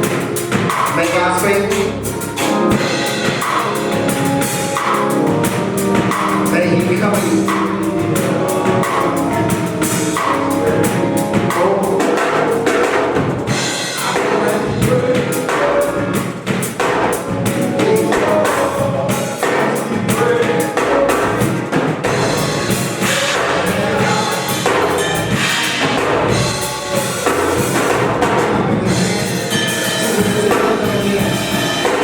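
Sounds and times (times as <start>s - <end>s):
drum kit beat: 0.0s - 32.0s
singing over a band: 5.8s - 32.0s.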